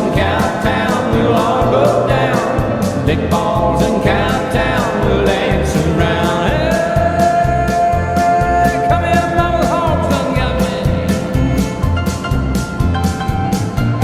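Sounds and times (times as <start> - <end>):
singing over drum beat: 0.0 - 11.8.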